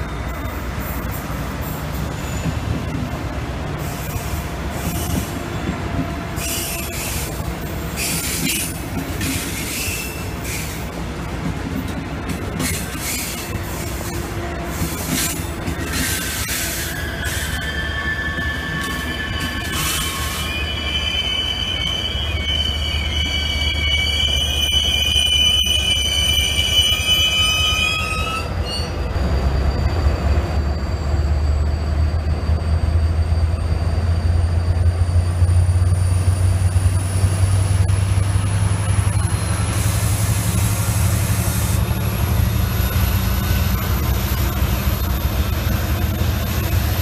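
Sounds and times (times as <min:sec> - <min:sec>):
train wheels squealing: 0:00.0 - 0:03.0, 0:03.8 - 0:11.0, 0:12.5 - 0:47.0
diesel locomotive engine rumble: 0:00.0 - 0:47.0.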